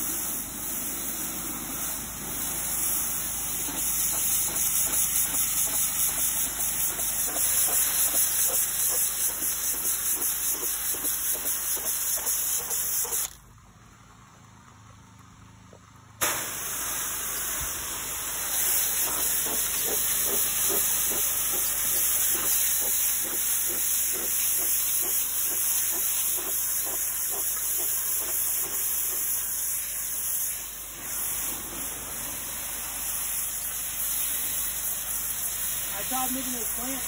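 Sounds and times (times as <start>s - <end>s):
pressure washer spraying on brick: 0.0s - 13.4s, 16.2s - 37.0s.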